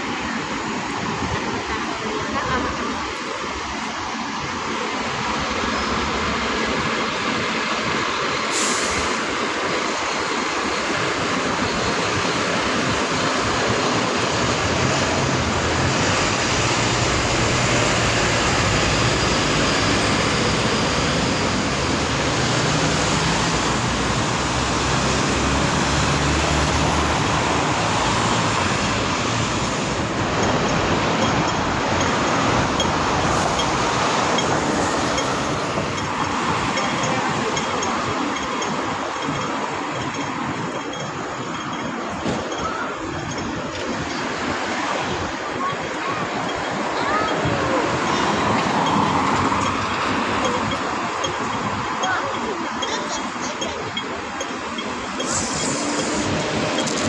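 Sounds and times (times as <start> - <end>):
vehicle noise: 0.0 - 57.0.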